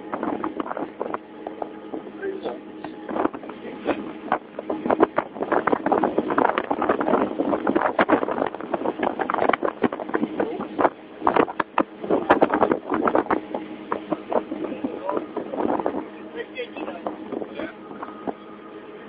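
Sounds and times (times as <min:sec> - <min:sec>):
engine drone: 0:00.0 - 0:19.0
water splashing at hull: 0:00.0 - 0:19.0
wind buffeting microphone: 0:00.0 - 0:19.0.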